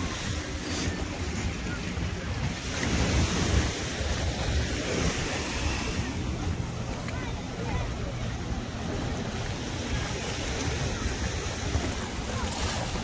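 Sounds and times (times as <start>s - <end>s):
sea surf washing on beach: 0.0s - 13.0s.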